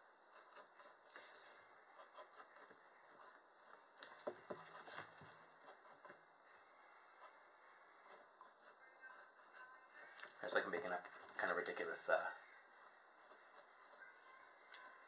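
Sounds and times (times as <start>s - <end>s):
drawing tool scratching: 0.0s - 6.3s, 7.1s - 11.8s, 12.4s - 15.0s.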